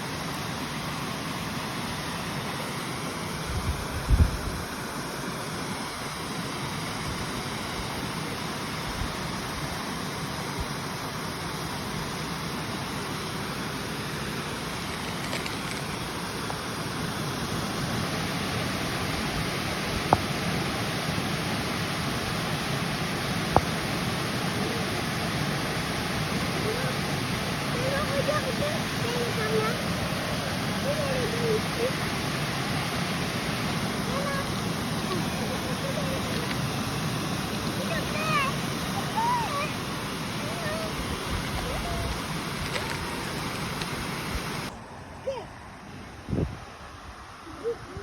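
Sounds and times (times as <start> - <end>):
river water rushing: 0.0 - 47.9.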